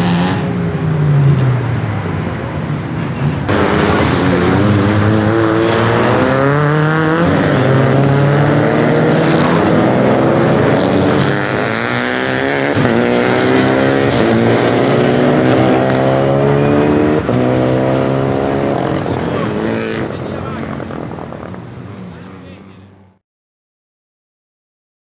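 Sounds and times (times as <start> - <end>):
car engine accelerating hard: 0.0 - 23.2.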